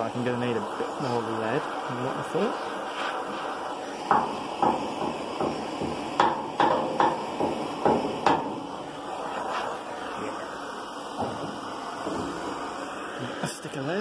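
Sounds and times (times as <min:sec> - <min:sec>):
blowtorch hissing: 0:00.0 - 0:14.0.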